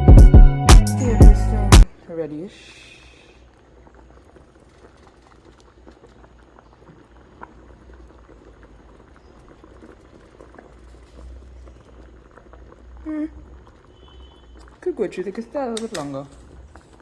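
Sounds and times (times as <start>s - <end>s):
pot of food bubbling: 3.0s - 17.0s.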